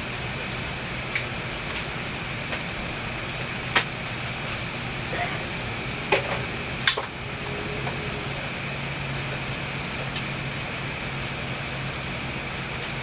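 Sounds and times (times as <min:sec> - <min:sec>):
airplane cabin hum and hiss: 0:00.0 - 0:13.0.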